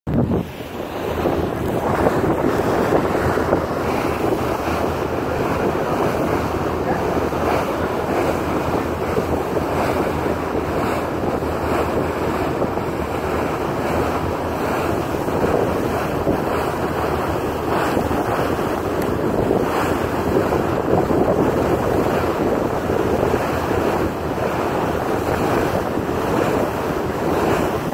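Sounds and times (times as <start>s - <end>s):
water rushing past hull: 0.1s - 27.9s
wind buffeting microphone: 0.1s - 27.9s.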